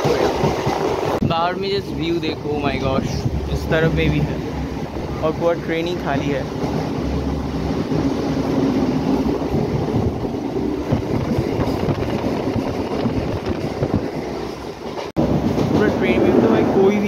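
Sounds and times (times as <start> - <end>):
train rumbling from inside carriage: 0.0 - 17.0
wheels rattling on track: 0.0 - 17.0.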